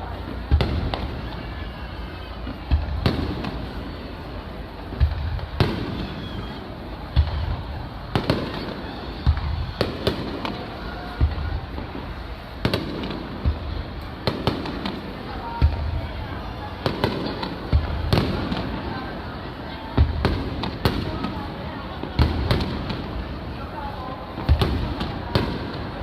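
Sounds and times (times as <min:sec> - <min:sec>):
fireworks booming: 0:00.0 - 0:26.0.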